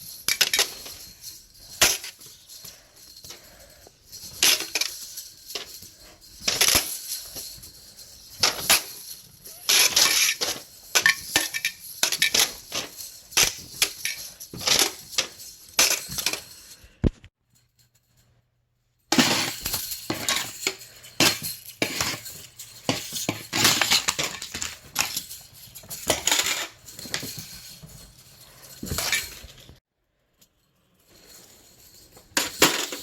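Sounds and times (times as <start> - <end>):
slinky coils clattering and jingling: 0.0 - 33.0.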